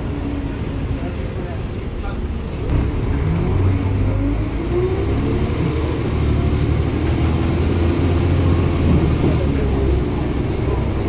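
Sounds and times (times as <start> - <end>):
bus diesel engine under load: 0.0 - 11.0.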